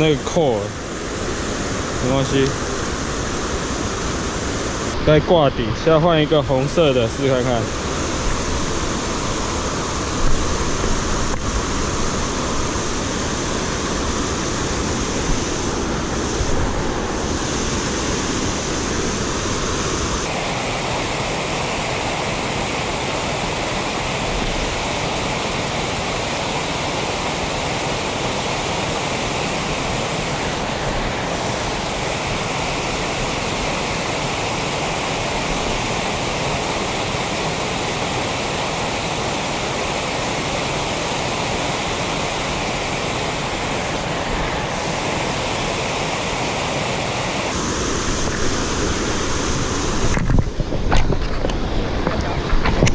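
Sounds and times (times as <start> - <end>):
creek water flowing: 0.0 - 50.1.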